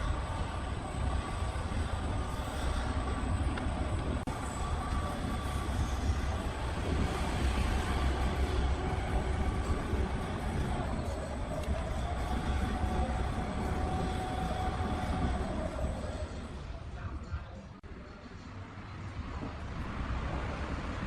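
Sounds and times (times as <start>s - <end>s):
heavy machinery rumbling: 0.0s - 17.4s.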